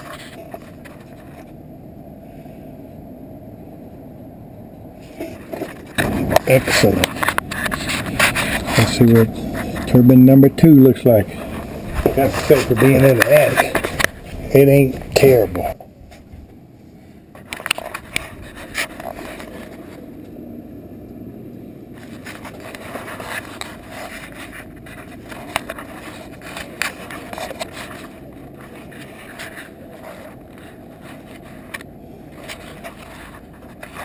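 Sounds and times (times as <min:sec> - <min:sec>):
roof ventilation turbine spinning: 0:00.0 - 0:34.0.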